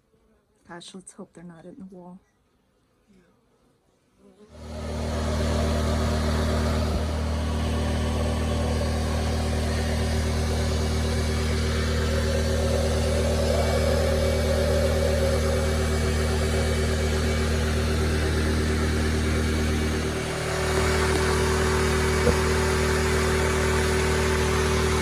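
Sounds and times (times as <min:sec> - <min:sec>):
engine humming: 0:04.6 - 0:25.0.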